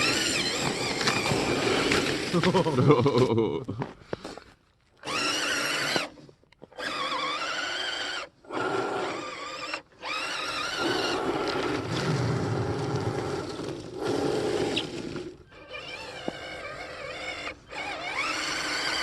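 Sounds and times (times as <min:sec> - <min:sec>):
electric motor and gearbox whining: 0:00.0 - 0:03.0, 0:05.0 - 0:19.0.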